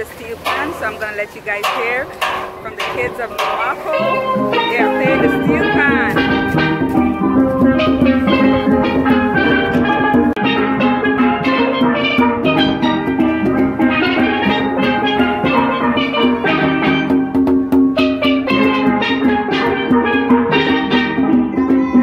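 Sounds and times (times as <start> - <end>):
hand drums: 0.0 - 22.0
steel pans playing a tune: 0.0 - 22.0.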